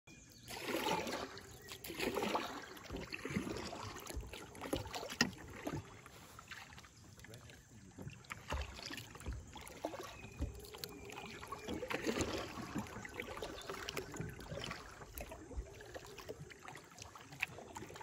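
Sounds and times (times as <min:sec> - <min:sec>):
paddle splashing in water: 0:00.2 - 0:18.0.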